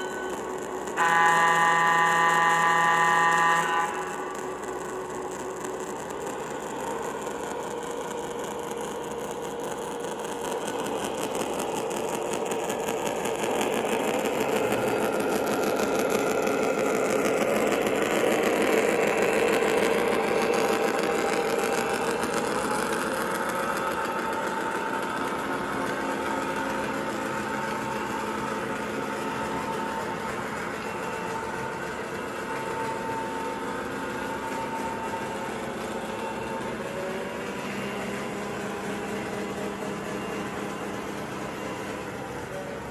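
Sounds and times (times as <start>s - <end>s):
faint whining tones: 0.0s - 42.9s
subway train rumble: 0.0s - 42.9s.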